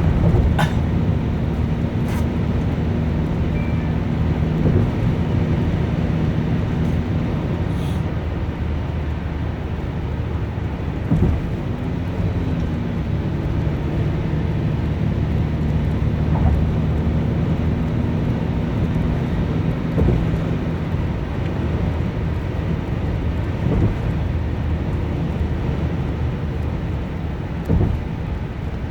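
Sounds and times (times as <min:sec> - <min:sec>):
low engine hum: 0:00.0 - 0:28.9.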